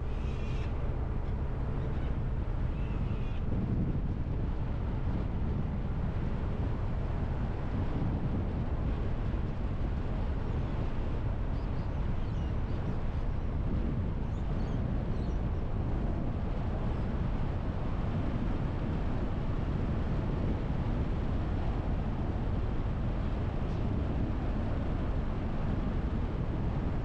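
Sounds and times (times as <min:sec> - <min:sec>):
tyre and wind noise: 0:00.0 - 0:27.0.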